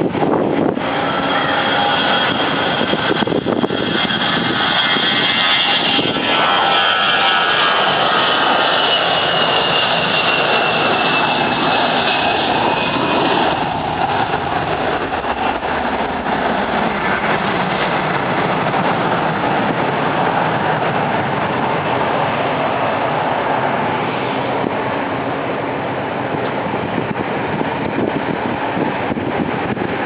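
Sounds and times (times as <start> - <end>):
jet engine high whine: 0.0 - 30.0
jet engine roar: 0.0 - 30.0.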